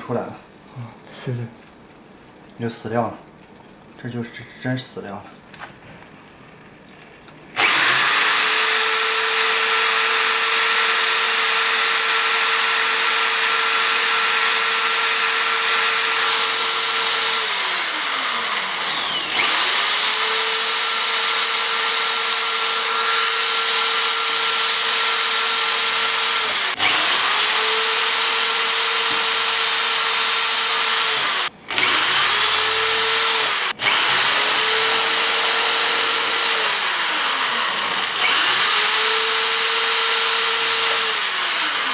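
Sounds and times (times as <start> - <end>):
electric drill whining: 7.6 - 41.9.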